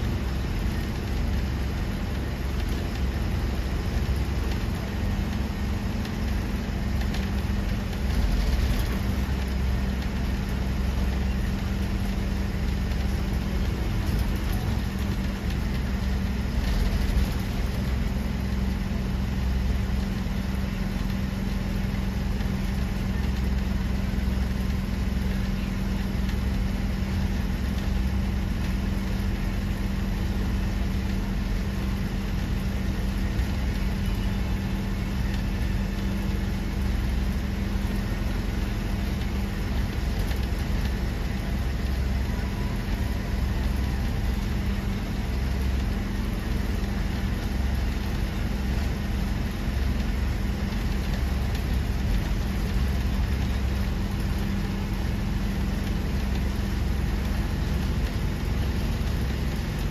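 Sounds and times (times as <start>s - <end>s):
bus engine humming: 0.0s - 59.9s.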